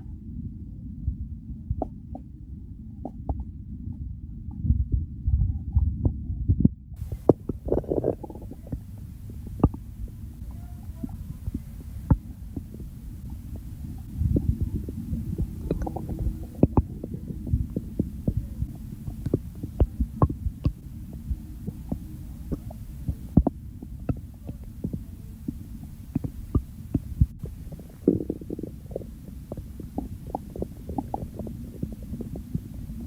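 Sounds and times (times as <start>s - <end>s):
stomach gurgling: 3.0s - 33.0s.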